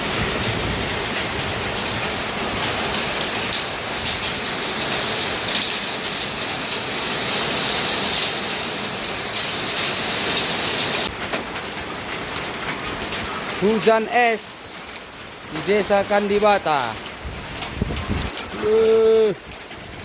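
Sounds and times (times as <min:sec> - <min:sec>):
hailstones clattering: 0:00.0 - 0:20.0
heavy rain hissing: 0:00.0 - 0:20.0.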